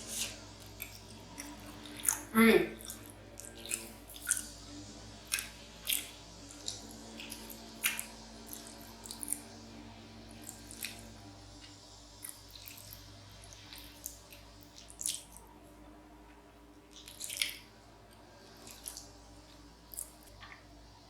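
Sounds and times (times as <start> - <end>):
close chewing: 0.0 - 9.7, 10.3 - 15.5, 16.9 - 20.6.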